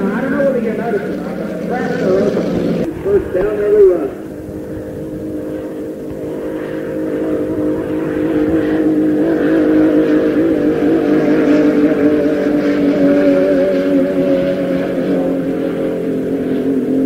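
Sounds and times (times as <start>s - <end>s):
racing boat engine roaring: 0.0s - 17.0s.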